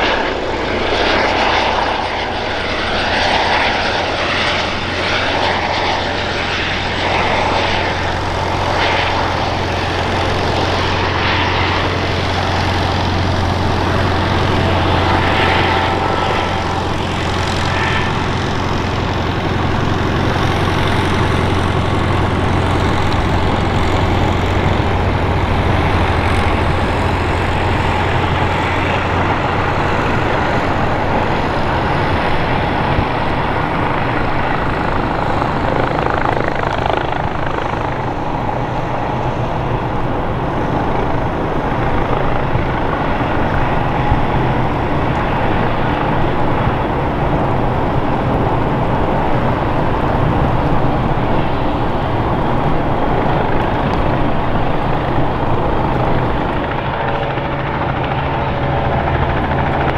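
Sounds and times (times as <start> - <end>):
helicopter hovering and landing: 0.0 - 59.9.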